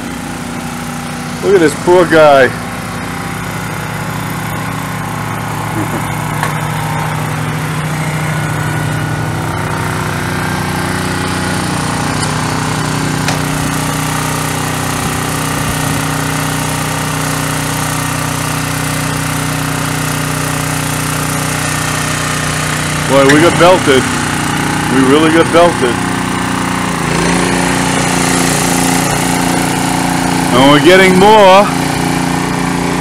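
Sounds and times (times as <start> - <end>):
engine humming steadily: 0.0 - 33.0.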